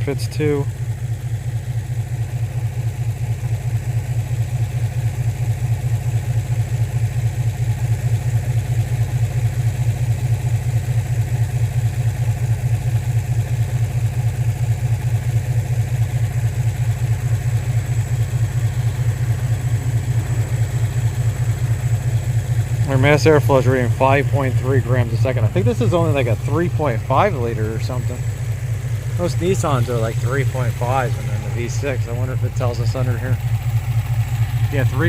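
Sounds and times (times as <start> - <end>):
car engine idling rough: 0.0 - 35.0.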